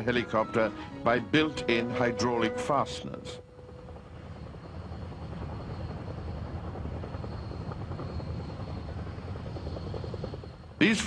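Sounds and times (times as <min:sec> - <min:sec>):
faint high engine whine: 0:00.0 - 0:11.0
helicopter rotor rumble: 0:00.0 - 0:11.0.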